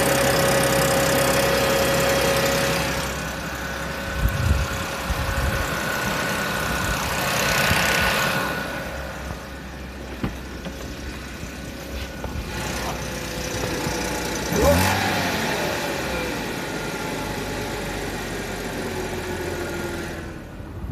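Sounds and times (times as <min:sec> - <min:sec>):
car engine idling and revving: 0:00.0 - 0:20.9.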